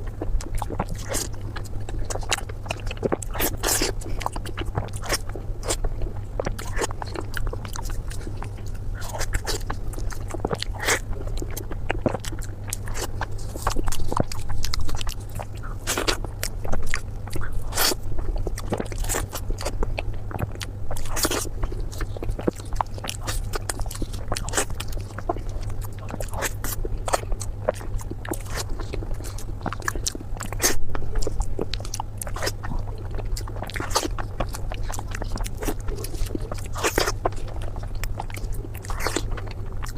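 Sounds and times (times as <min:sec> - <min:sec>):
person chewing food: 0:00.0 - 0:39.9
steady low hum: 0:00.0 - 0:39.9
wet smacking and crunchy clicks: 0:00.0 - 0:39.9.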